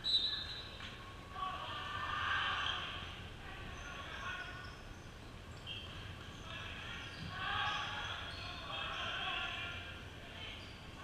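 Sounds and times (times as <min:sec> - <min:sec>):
murmur of voices in gymnasium: 0:00.0 - 0:11.0.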